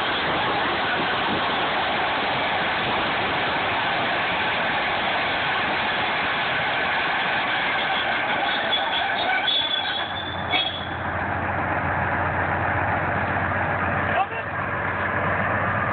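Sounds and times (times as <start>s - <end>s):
bulldozer engine and tracks: 0.0s - 15.9s.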